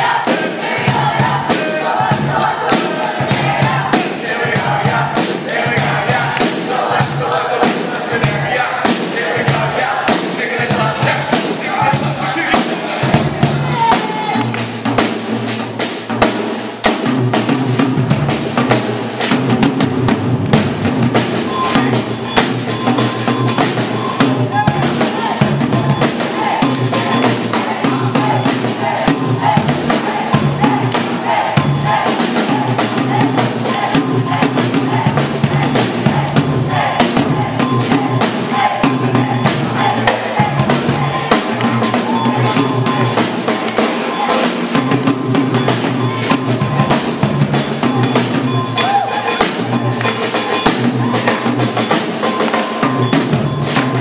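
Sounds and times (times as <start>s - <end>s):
drum kit hip-hop groove: 0.0s - 54.0s.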